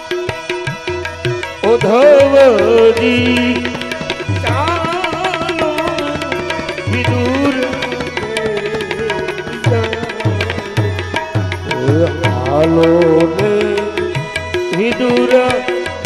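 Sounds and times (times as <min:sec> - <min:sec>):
person singing melody: 0:00.0 - 0:16.0
tabla playing steady rhythm: 0:00.0 - 0:16.0.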